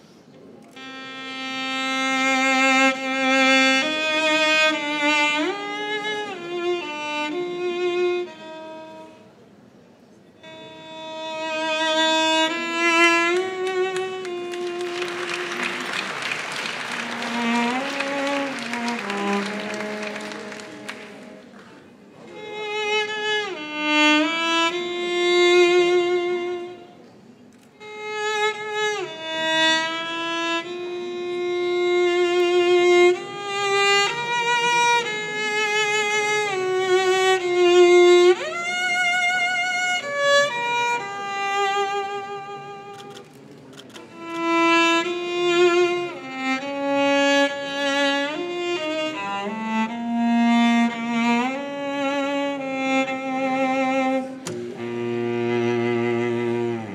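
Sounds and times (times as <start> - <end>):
bowed string instrument melody: 0.4 - 56.9.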